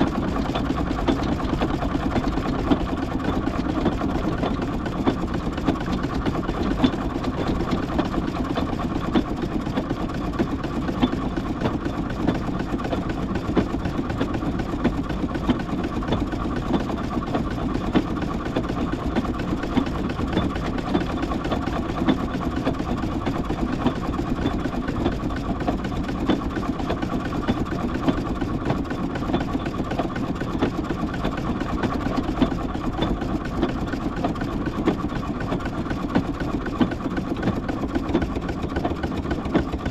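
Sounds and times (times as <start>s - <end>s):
steam traction engine running: 0.0s - 39.9s.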